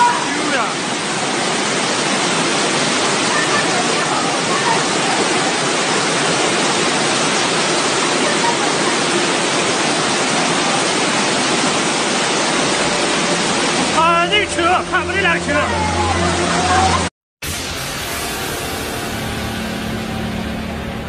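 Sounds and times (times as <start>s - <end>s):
floodwater torrent rushing: 0.0s - 21.0s.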